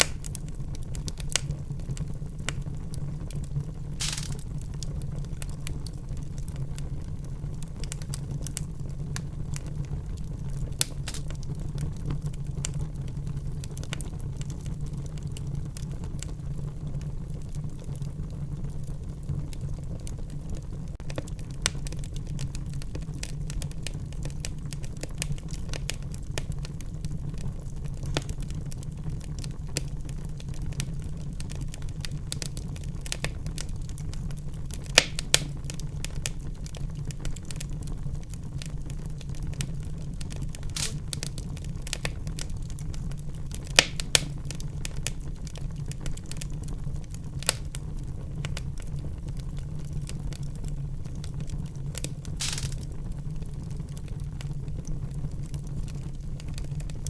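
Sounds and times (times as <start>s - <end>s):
fire popping: 0.0s - 57.0s
low rumble of flames: 0.0s - 57.0s
wood fire crackling: 0.0s - 57.0s.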